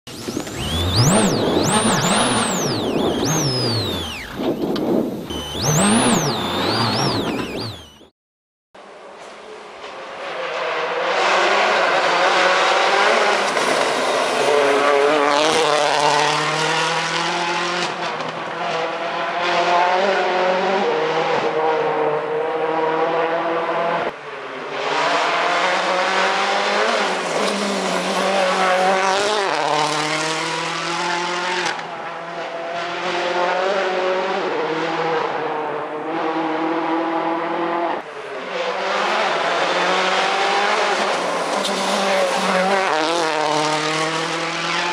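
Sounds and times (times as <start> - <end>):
rally car engines revving: 0.1 - 8.1, 8.8 - 44.9.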